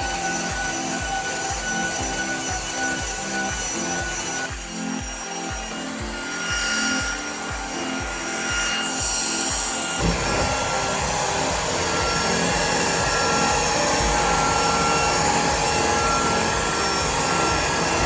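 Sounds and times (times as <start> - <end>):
background music with steady beat: 0.0 - 18.0
vacuum cleaner motor whine: 0.0 - 18.0.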